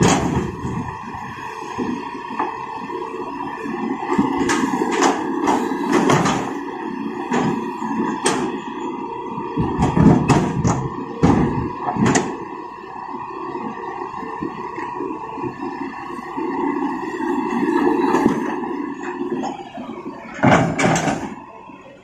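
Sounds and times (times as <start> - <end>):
excavator diesel engine running: 0.0 - 22.0
heavy rumble: 0.0 - 22.0.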